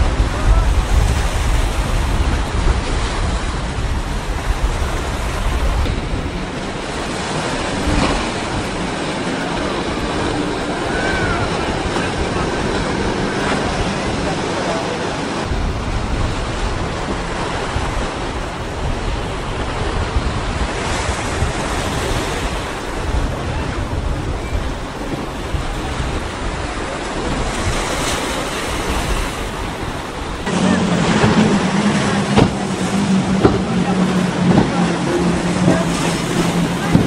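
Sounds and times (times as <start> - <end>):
choppy sea water washing: 0.0 - 37.0
outboard engines running fast: 0.0 - 37.0
wind: 0.0 - 37.0.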